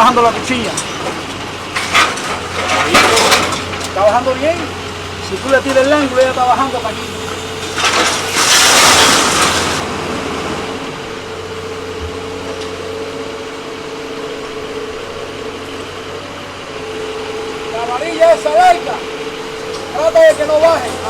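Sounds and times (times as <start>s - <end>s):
hydraulic power unit engine running: 0.0s - 21.0s.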